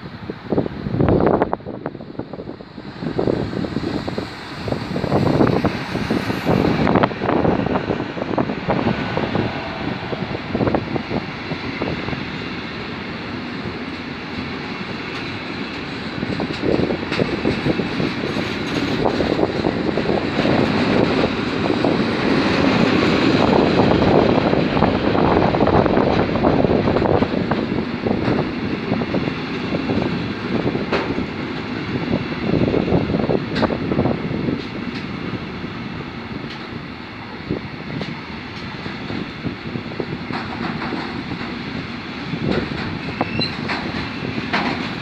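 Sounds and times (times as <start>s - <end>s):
freight train rolling past: 0.0s - 45.0s.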